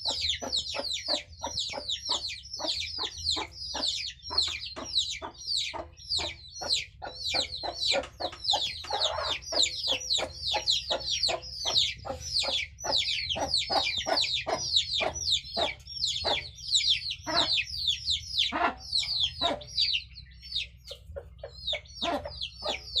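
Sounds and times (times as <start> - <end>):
chickens peeping: 0.0 - 23.0.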